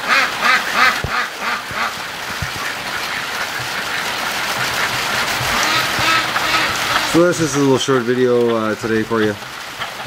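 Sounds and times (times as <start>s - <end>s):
ducks quacking: 0.0s - 10.0s
heavy rain pouring: 0.0s - 10.0s.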